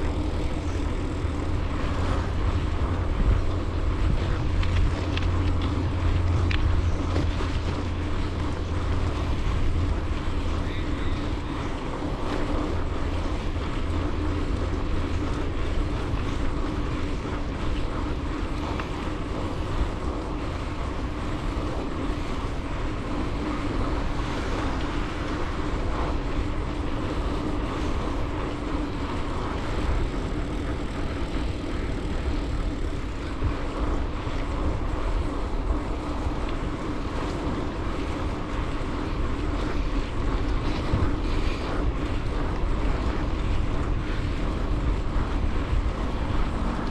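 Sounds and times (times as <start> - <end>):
bicycle tyres rolling on pavement: 0.0 - 46.9
wind buffeting microphone: 0.0 - 46.9.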